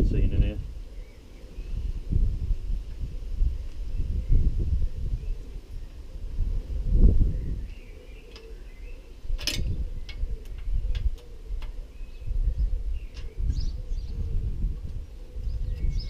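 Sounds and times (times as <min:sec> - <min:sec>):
birds chirping: 0:00.0 - 0:02.2, 0:03.6 - 0:16.0
wind buffeting microphone: 0:00.0 - 0:16.0.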